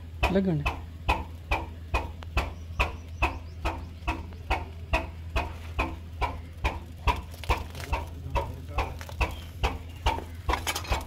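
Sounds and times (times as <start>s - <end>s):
low hum: 0.0s - 11.0s
stationary engine idling: 0.0s - 11.0s.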